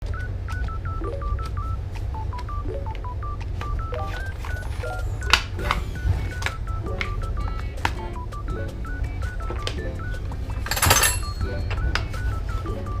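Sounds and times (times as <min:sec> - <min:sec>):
plucked bouncy melody: 0:00.0 - 0:13.0.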